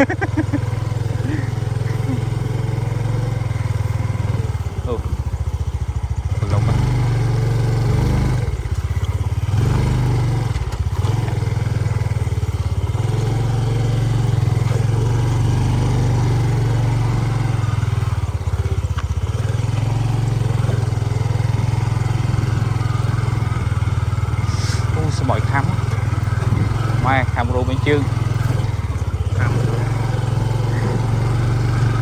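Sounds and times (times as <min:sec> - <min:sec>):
motorbike engine running: 0:00.0 - 0:32.0.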